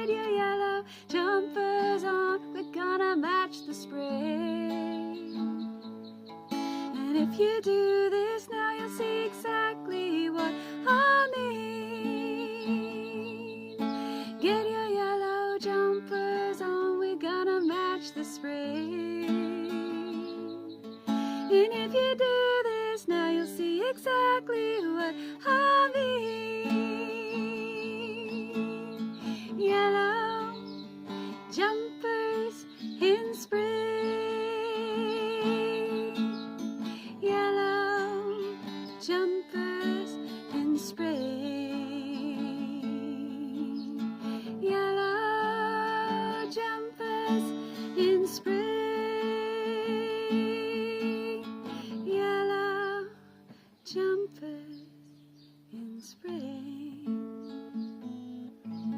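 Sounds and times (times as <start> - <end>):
woman singing wordlessly: 0.0 - 6.0, 6.8 - 55.1, 55.7 - 57.8
acoustic guitar strumming: 0.0 - 54.2, 56.8 - 58.9.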